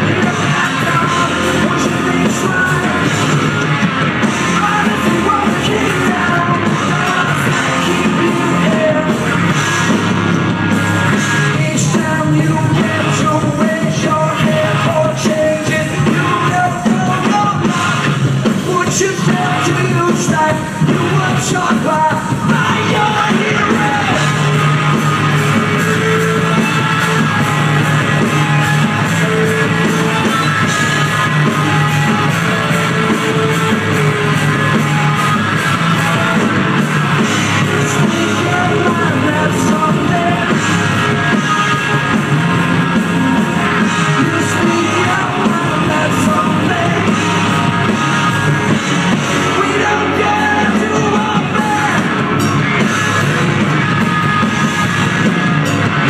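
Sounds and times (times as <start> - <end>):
live rock band through pa: 0.0 - 56.0.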